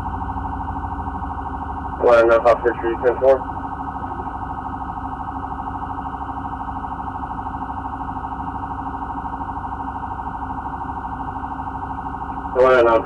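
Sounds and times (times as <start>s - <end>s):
rapid pulsing electronic warning tone: 0.0s - 13.0s.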